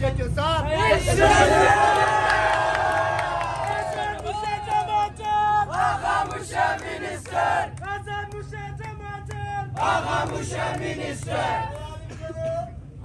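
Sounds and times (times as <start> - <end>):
crowd of men chanting: 0.8 - 11.9.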